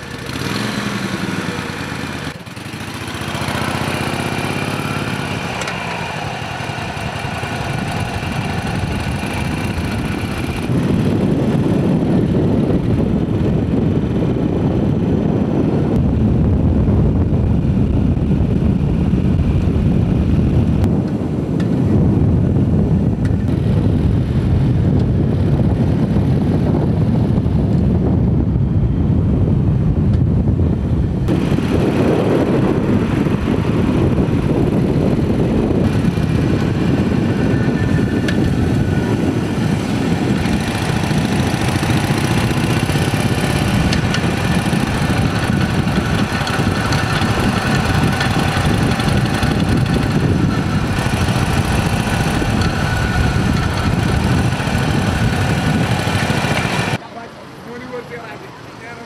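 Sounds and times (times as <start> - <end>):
motorcycle engine: 0.0 - 57.0
wind rushing on microphone: 0.0 - 59.0.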